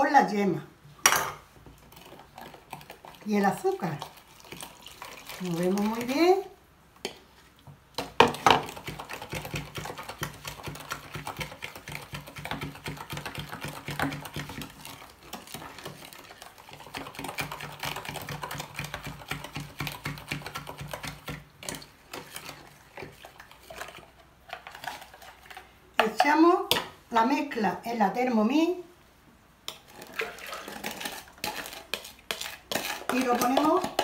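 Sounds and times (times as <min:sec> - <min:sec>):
spoon beating mixture in bowl: 0:01.4 - 0:27.0, 0:29.6 - 0:34.0.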